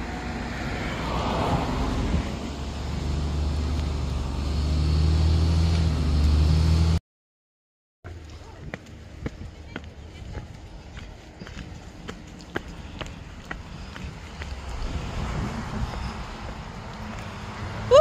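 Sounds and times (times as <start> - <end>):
engine hum: 0.0 - 7.0, 8.1 - 18.0
vehicle passing: 0.0 - 7.0, 10.4 - 18.0.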